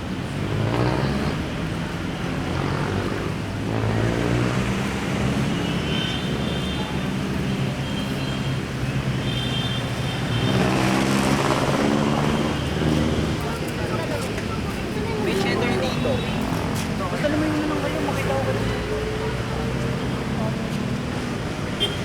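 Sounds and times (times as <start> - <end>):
passing vehicle engines: 0.0 - 22.0.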